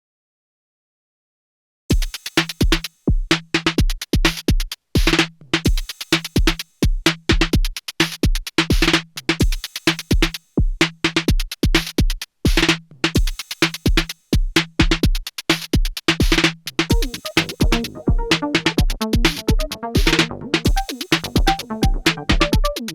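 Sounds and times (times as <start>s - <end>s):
techno drum machine beat: 1.9s - 22.9s.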